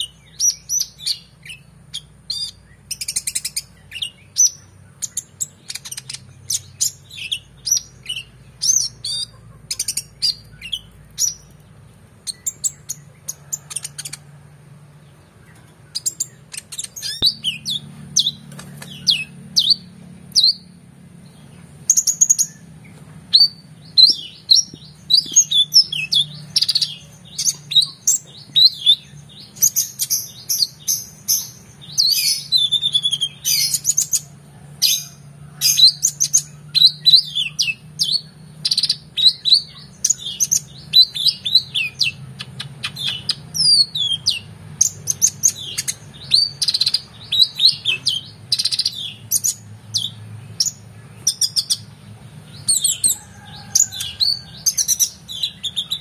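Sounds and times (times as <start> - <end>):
sunbird singing: 0.0 - 56.0.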